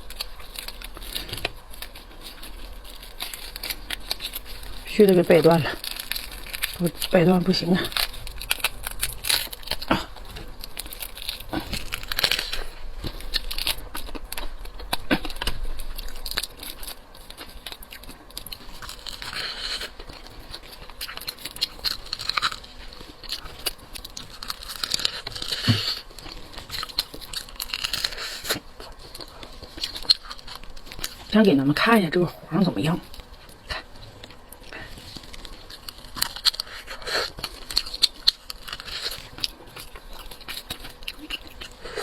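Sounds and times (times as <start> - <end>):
shell cracking and tearing: 0.0 - 31.3, 34.2 - 42.0.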